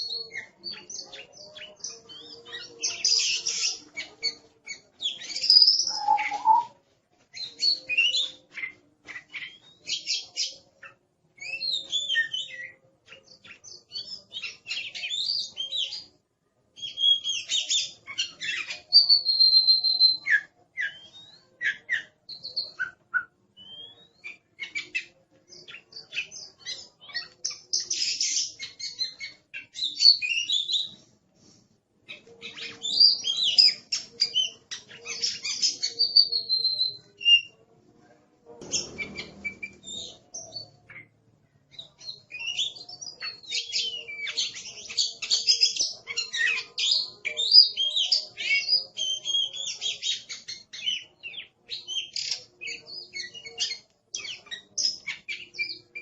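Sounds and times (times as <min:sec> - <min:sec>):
bird singing whistles and chatters: 0:00.0 - 0:16.1, 0:16.8 - 0:31.0, 0:32.1 - 0:37.6, 0:38.6 - 0:56.0.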